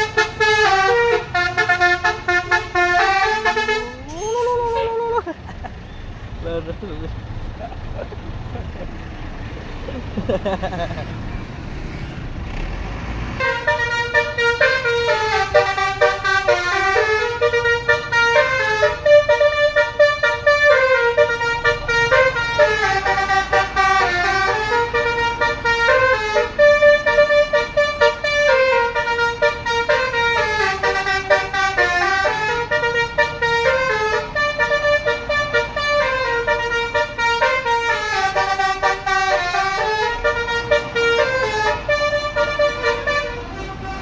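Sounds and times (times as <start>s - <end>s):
musical bus horn playing a tune: 0.0s - 5.2s, 13.4s - 44.0s.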